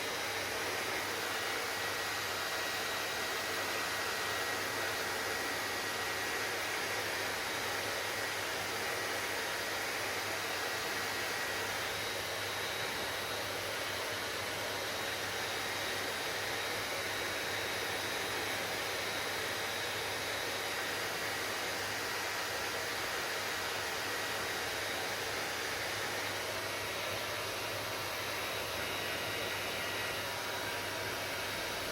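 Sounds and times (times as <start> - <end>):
hair dryer running: 0.0 - 31.9.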